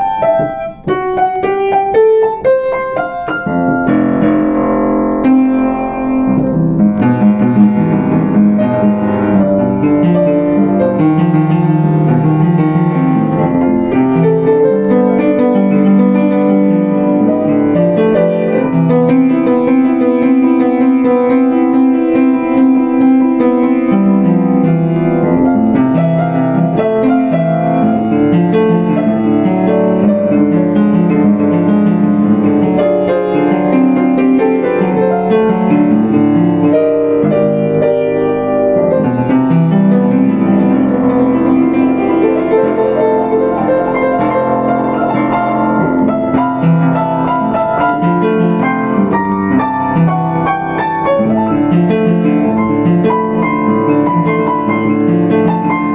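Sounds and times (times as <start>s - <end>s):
solo piano music: 0.0s - 55.9s.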